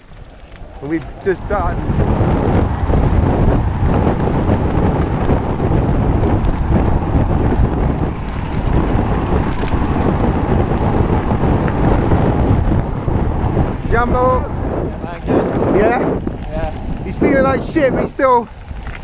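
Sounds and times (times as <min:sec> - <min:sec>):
tyres rumbling on gravel: 0:00.0 - 0:19.0
wind buffeting microphone: 0:00.0 - 0:19.0.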